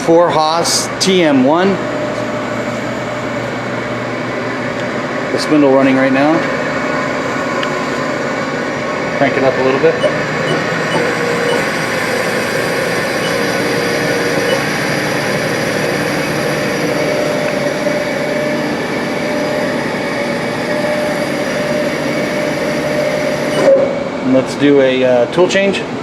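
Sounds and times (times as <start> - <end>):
milling machine spindle whine: 1.6 - 24.3.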